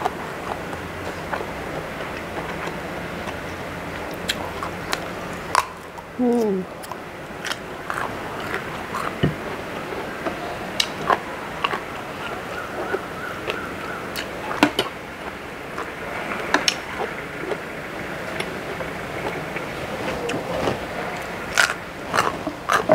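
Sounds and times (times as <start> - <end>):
chewing: 0.0 - 22.9
steady background noise: 0.0 - 22.9.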